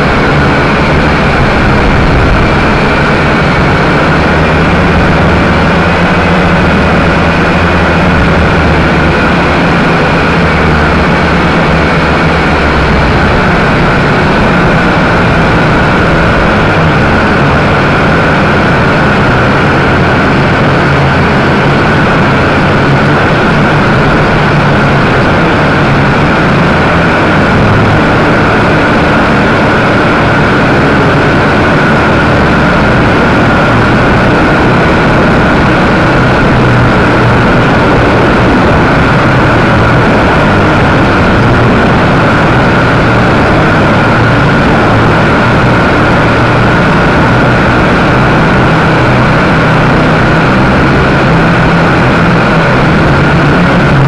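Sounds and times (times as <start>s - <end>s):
quadcopter motors and propellers: 0.0s - 54.0s.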